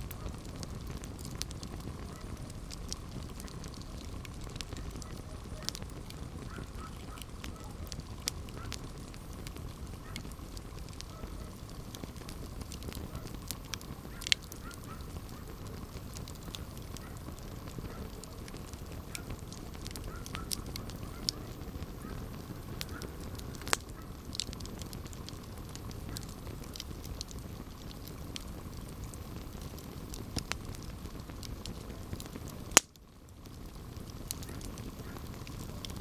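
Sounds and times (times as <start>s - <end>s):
campfire pops and snaps: 0.0s - 36.0s
fire rumbling: 0.0s - 36.0s.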